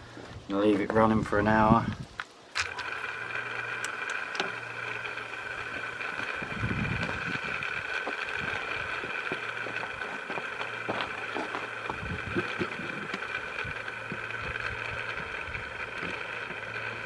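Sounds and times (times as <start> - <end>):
small electric motor whining: 2.5 - 17.0.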